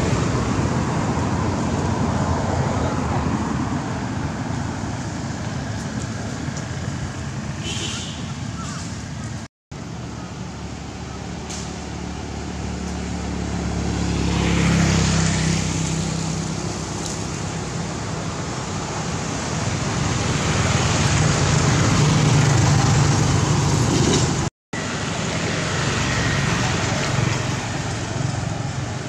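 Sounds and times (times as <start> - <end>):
road traffic engine hum: 0.0 - 29.0.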